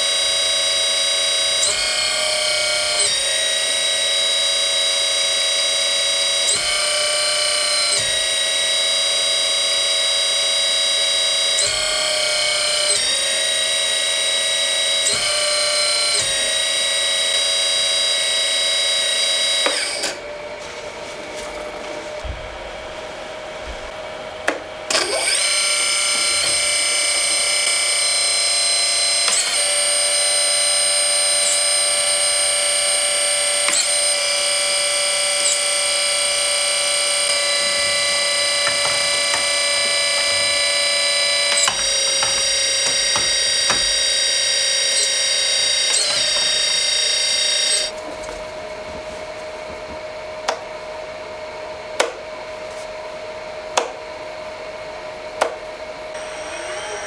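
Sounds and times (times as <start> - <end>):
hydraulic pump whining: 0.0 - 57.0.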